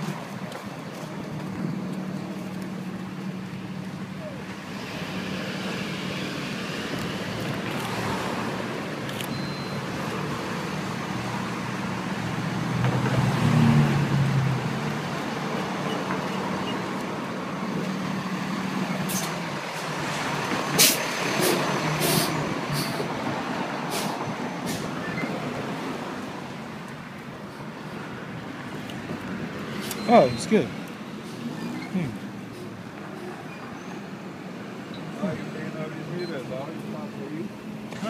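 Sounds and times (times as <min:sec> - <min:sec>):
heavy vehicle engine: 0:00.0 - 0:38.0
street traffic going by: 0:00.0 - 0:38.0.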